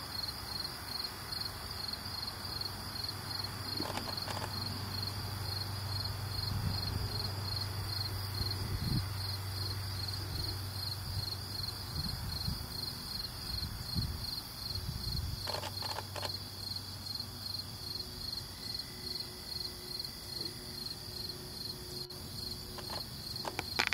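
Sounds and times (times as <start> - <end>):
insects chirping: 0.0 - 23.9.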